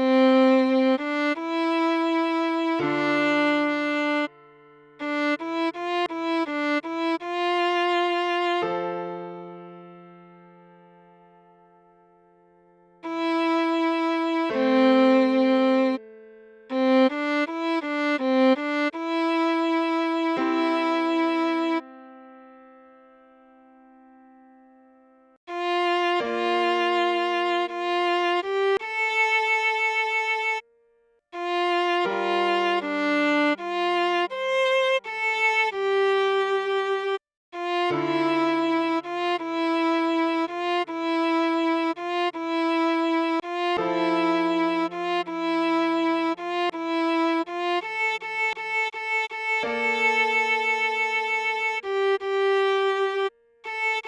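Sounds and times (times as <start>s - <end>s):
viola playing slow melody: 0.0s - 54.0s.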